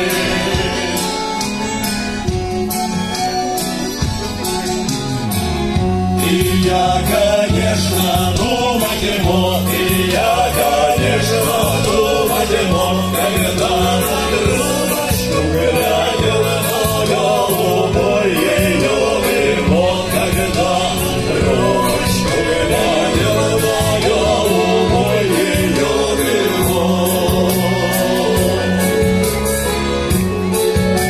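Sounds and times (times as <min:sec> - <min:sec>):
group singing song with band: 0:00.0 - 0:01.8, 0:06.1 - 0:30.3.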